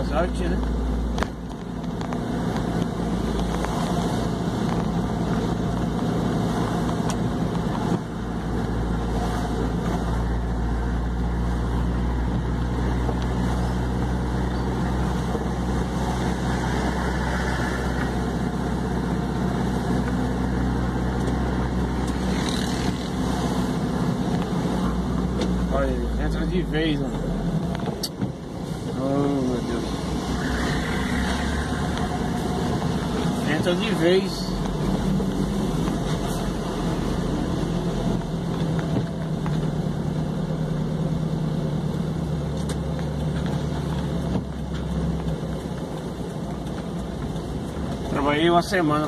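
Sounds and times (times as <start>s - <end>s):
engine hum: 0.0s - 49.0s
road noise in vehicle cabin: 0.0s - 49.0s.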